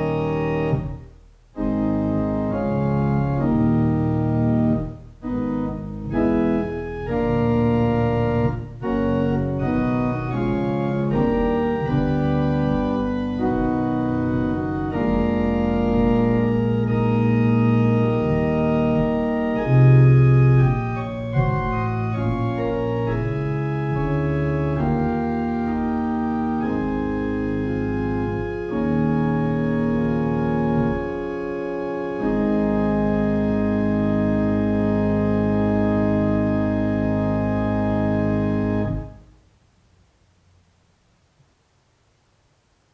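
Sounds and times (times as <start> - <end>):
organ playing sustained chords: 0.0 - 39.3.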